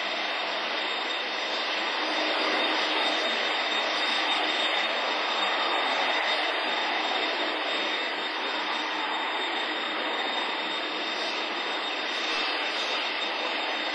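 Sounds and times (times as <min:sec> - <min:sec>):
high engine whine: 0:00.0 - 0:13.9
jet engines rushing: 0:00.0 - 0:13.9.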